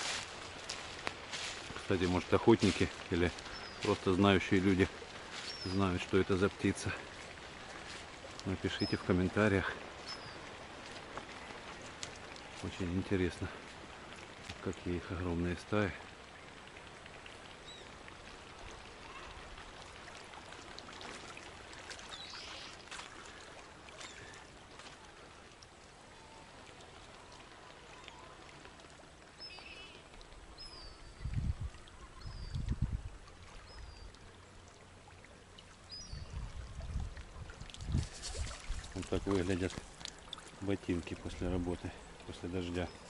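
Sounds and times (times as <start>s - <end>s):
waterbird calls: 0.0s - 43.0s
wind and water hiss: 0.0s - 43.0s.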